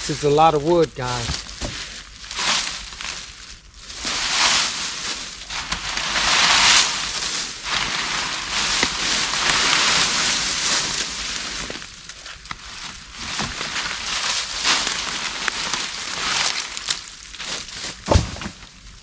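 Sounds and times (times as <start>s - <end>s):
dry leaves rustling and crunching: 0.0s - 19.0s.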